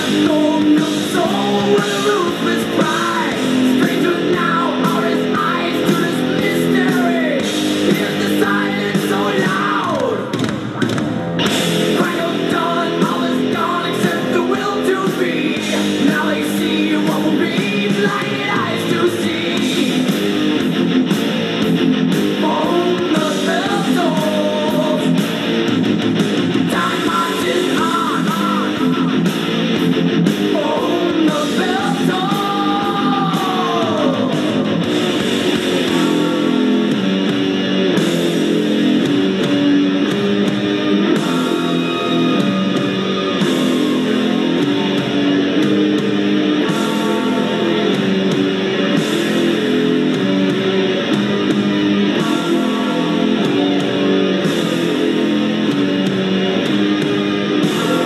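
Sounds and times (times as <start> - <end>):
person singing: 0.0 - 10.4, 11.8 - 20.3, 22.3 - 25.4, 26.7 - 29.5, 30.4 - 37.1, 41.0 - 55.8, 56.6 - 58.0
electric guitar: 0.0 - 58.0.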